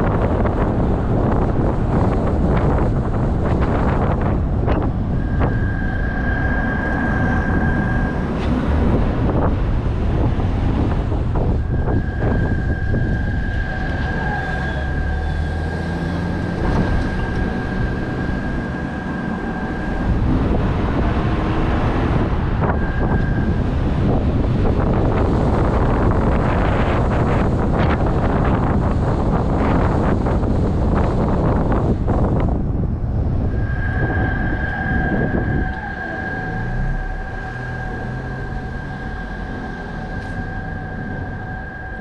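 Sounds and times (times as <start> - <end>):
dense low rumble: 0.0 - 42.0
high-pitched whine: 0.0 - 42.0
wind buffeting microphone: 0.0 - 42.0.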